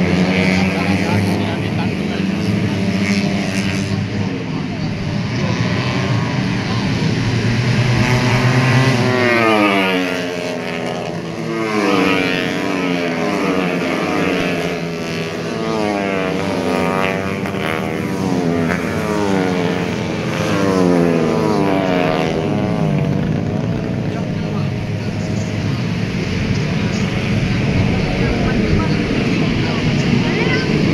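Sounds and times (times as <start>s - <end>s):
racing motorcycles passing: 0.0s - 30.9s.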